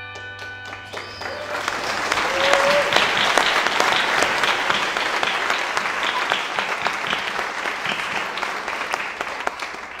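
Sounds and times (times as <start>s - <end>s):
crowd clapping: 0.1s - 10.0s.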